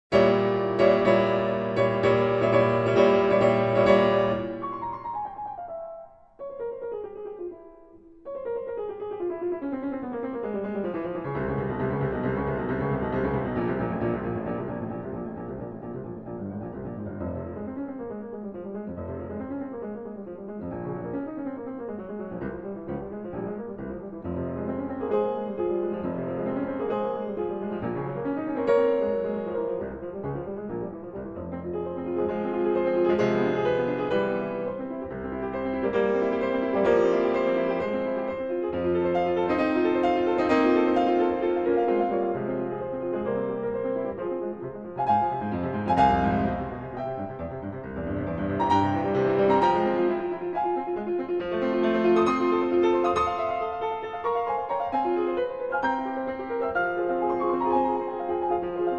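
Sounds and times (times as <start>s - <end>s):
piano music: 0.1s - 58.9s.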